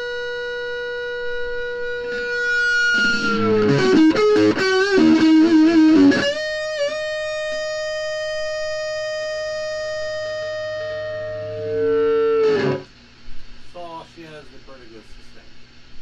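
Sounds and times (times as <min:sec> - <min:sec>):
electric guitar notes with sustain: 0:00.0 - 0:12.9.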